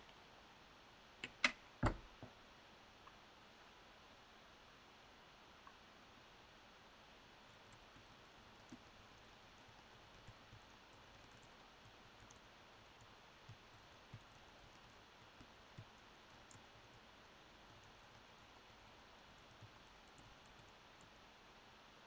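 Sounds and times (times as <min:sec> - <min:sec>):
faint room hiss: 0:00.0 - 0:22.0.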